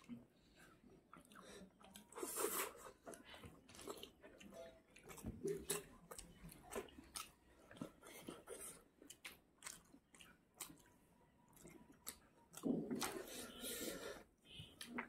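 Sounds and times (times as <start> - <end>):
chewing and biting noodles: 1.1 - 14.2.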